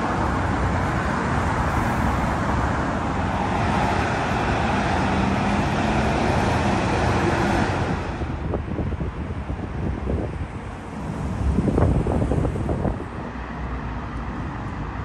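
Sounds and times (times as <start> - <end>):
cars and trucks passing: 0.0 - 15.0.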